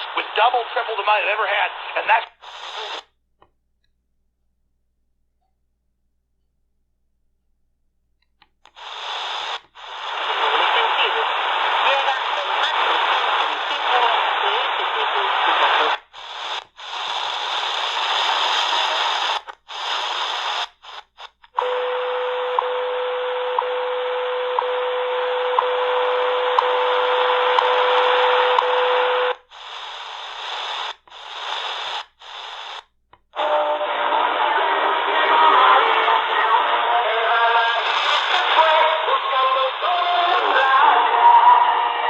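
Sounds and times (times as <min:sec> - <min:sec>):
radio static and hiss: 0:00.0 - 0:03.1, 0:08.7 - 0:42.0.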